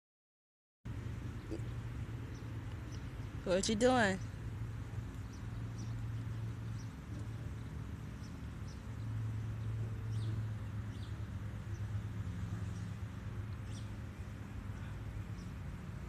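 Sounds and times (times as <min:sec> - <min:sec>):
small birds chirping: 0:01.2 - 0:12.0, 0:12.6 - 0:15.7.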